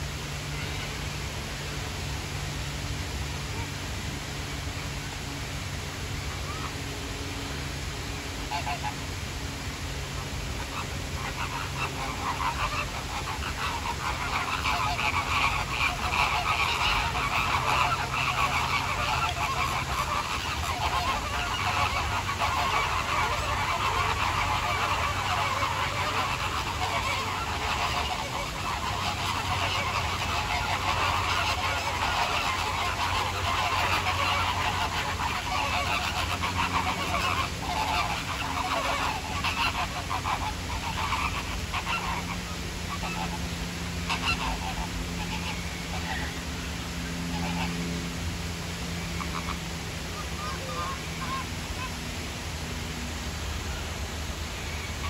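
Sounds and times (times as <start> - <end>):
flamingos honking: 0.0 - 55.0.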